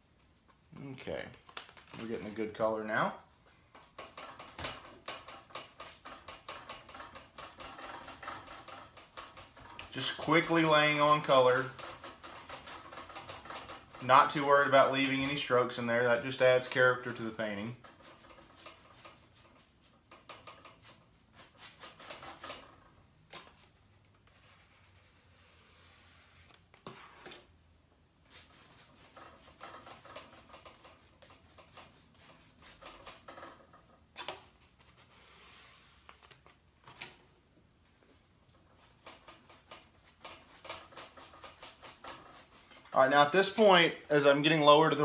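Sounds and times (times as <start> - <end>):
paintbrush rubbing and scratching: 2.0 - 23.0, 24.2 - 27.5, 28.2 - 34.0, 38.5 - 45.0.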